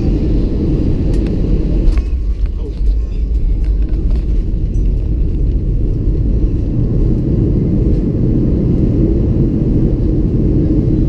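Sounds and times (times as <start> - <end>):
airliner engine and runway rumble: 0.0 - 11.0.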